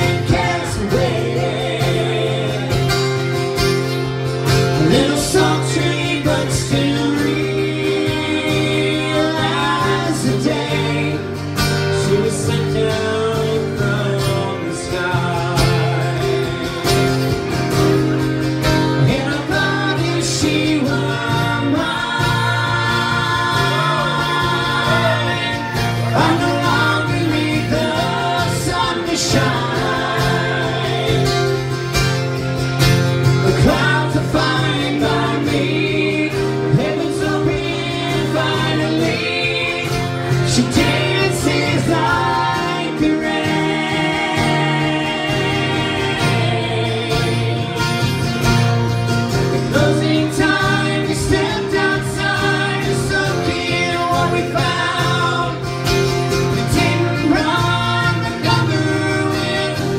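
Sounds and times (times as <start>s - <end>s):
acoustic guitars strumming: 0.0s - 59.9s
people singing with harmonies: 0.0s - 59.9s.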